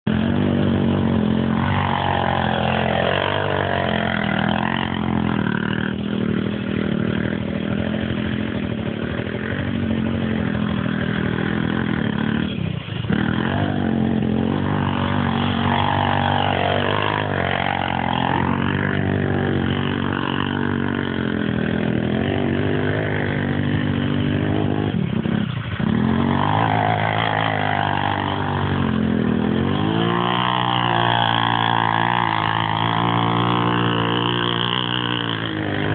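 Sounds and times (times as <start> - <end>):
quad bike engine revving: 0.0 - 35.9.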